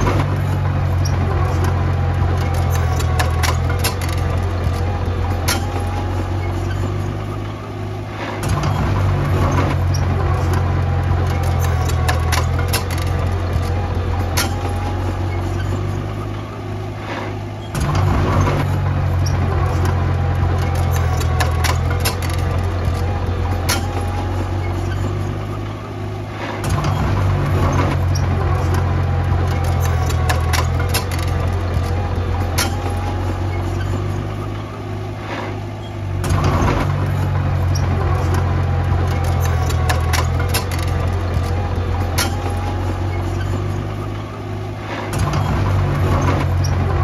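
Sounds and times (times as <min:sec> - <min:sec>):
small machine engine drone: 0:00.0 - 0:47.0.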